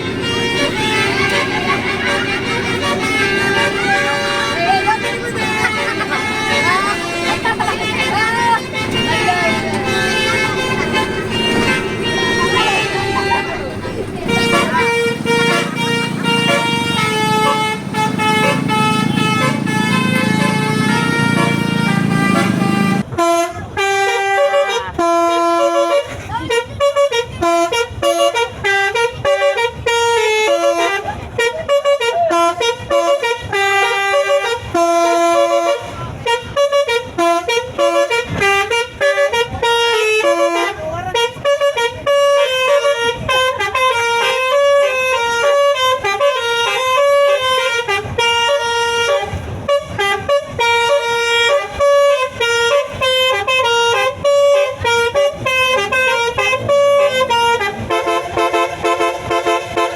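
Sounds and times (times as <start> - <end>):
musical air horns playing melody: 0.0 - 59.9.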